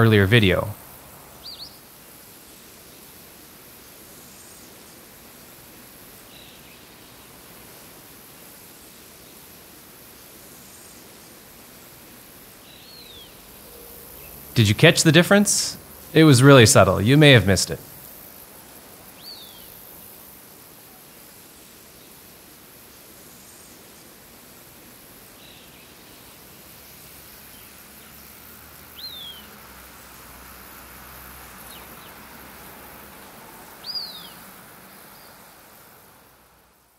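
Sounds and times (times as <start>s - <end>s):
steady soft hiss: 0.0s - 36.9s.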